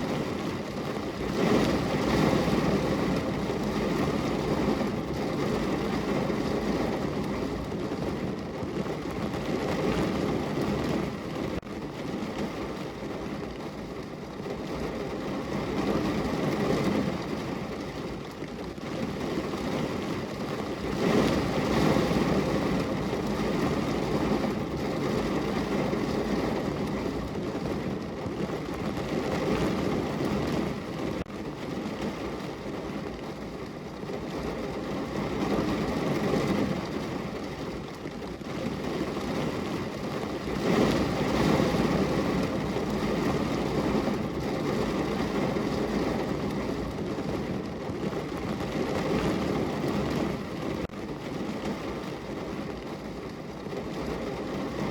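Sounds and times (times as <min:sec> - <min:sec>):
heavy rain drumming on a car roof: 0:00.0 - 0:54.9.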